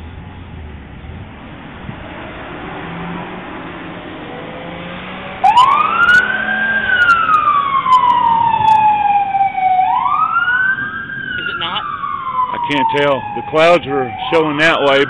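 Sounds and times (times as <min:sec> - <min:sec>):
siren wailing: 0:02.0 - 0:15.0.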